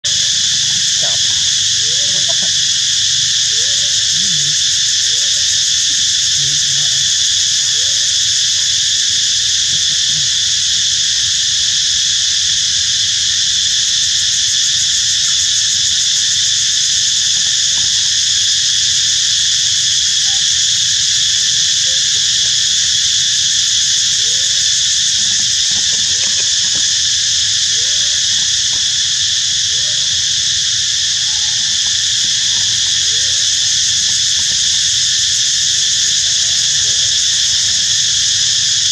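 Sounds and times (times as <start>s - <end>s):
insect chorus droning: 0.0s - 38.9s.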